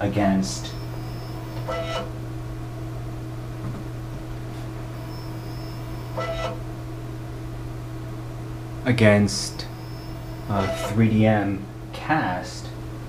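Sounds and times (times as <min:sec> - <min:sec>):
printer humming: 0:00.0 - 0:12.9.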